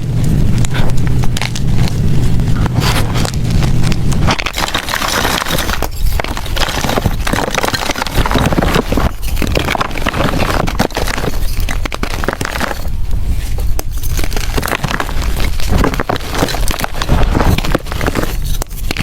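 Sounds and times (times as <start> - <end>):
chalk crushed by hand: 0.5 - 19.0.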